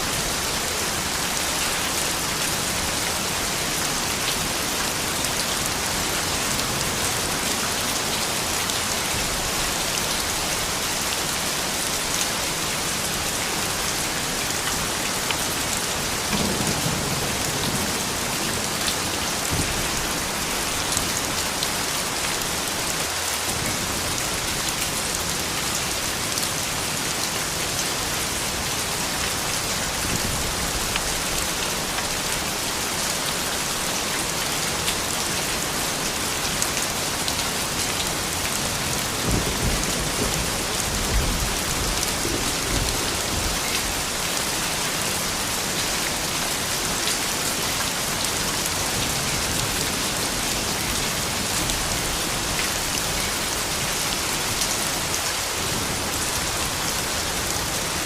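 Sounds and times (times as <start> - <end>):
rain patter: 0.0 - 58.0.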